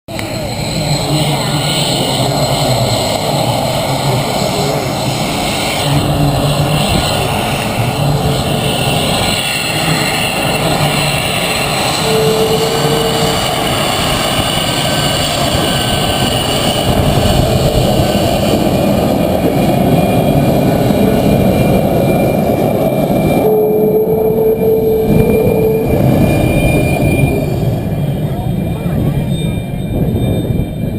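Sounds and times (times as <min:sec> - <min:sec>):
jet engine roar with whine: 0:00.1 - 0:30.9.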